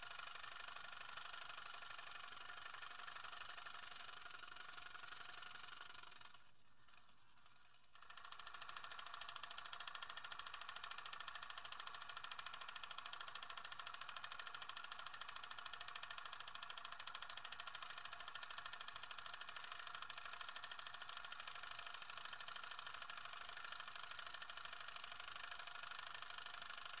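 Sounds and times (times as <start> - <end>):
film projector clattering: 0.0 - 27.0.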